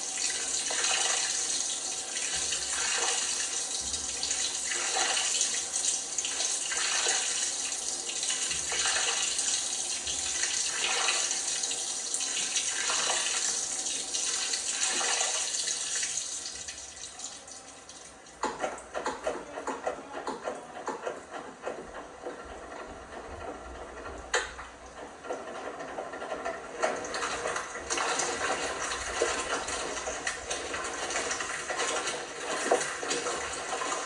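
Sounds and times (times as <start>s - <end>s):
washing machine filling with water: 0.0s - 34.0s.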